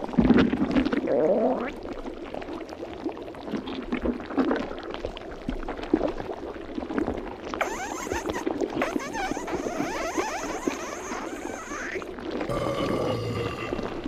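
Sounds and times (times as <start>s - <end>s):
stomach gurgling: 0.0s - 14.0s.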